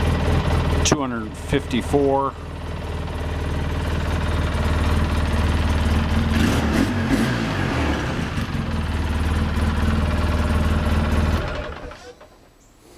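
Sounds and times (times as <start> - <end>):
atv engine idling: 0.0 - 12.7.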